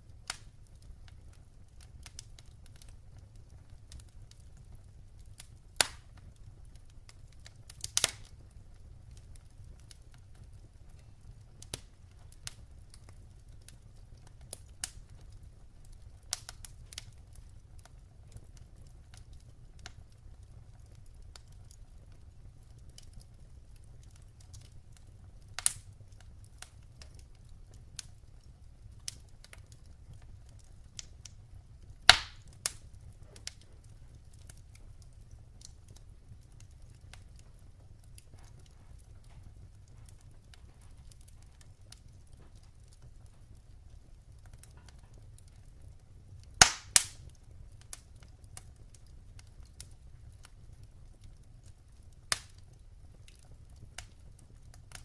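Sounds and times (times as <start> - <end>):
firewood crackling: 0.0 - 55.0.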